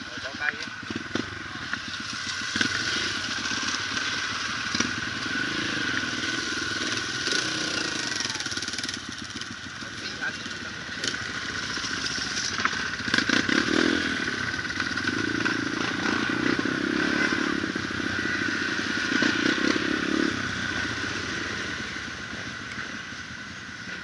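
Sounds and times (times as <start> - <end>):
dirt bike engine: 0.0 - 24.0.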